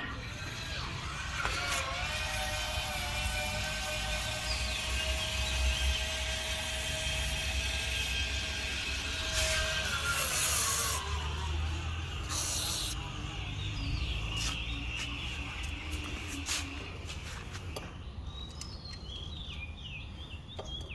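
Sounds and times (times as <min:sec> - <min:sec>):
electric gate motor whine: 0:00.0 - 0:17.7.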